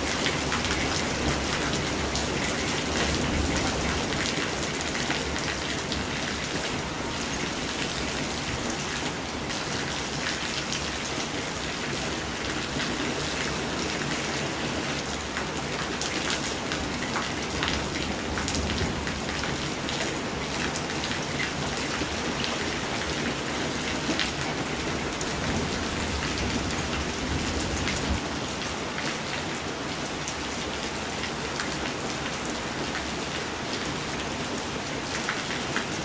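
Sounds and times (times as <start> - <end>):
rain on wet pavement: 0.0 - 36.0.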